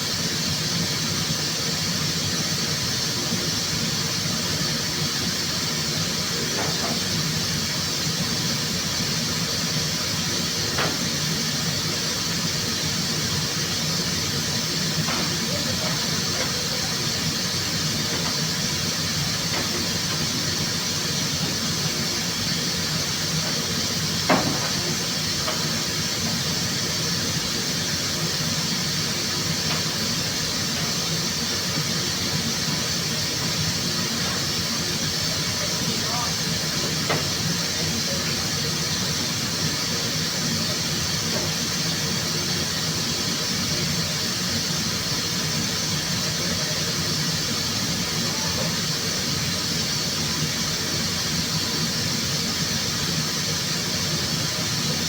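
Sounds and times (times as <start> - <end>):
rushing air hiss: 0.0 - 55.0.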